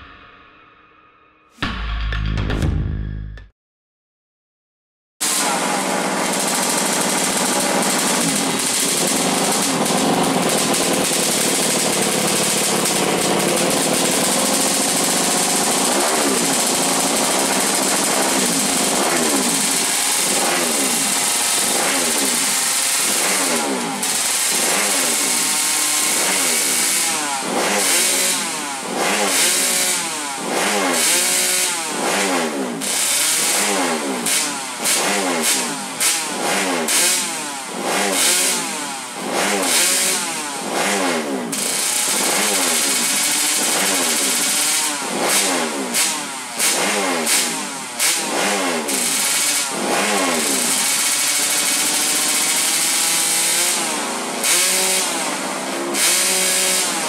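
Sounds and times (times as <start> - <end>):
two-stroke motorbike engine revving: 5.2 - 57.0.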